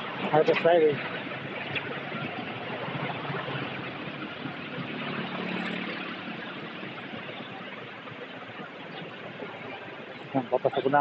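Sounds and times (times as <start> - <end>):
vehicle engine hum: 0.0 - 11.0
wind and road noise: 0.0 - 11.0.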